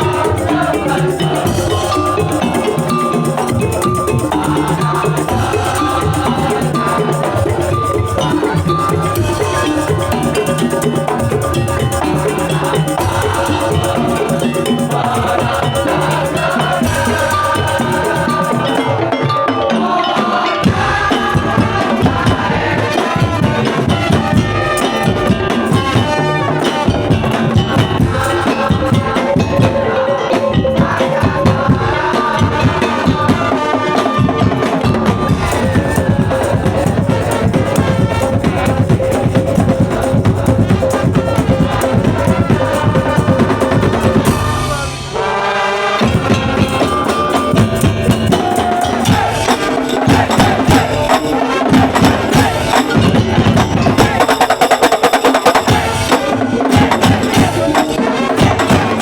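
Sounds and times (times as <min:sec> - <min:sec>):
drum ensemble playing: 0:00.0 - 0:59.0.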